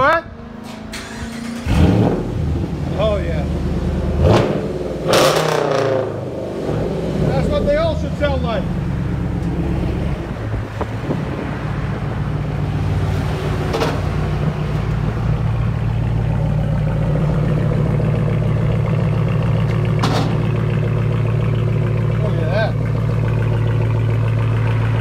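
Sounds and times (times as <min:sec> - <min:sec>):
deep exhaust rumble of engine: 0:01.2 - 0:25.0.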